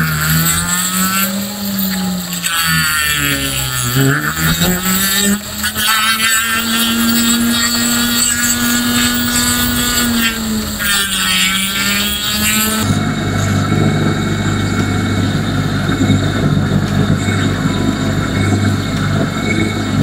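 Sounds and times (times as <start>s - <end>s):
polishing motor humming: 0.0s - 20.0s
rotary tool whining: 0.0s - 20.0s.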